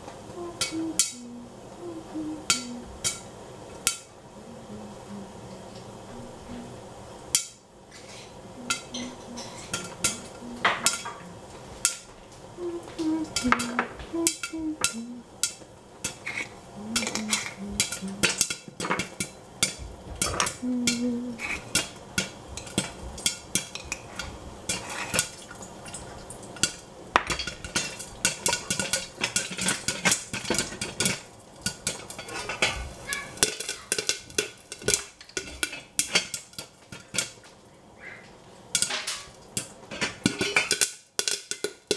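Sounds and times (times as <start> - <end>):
popcorn popping in saucepan: 0.0 - 41.9.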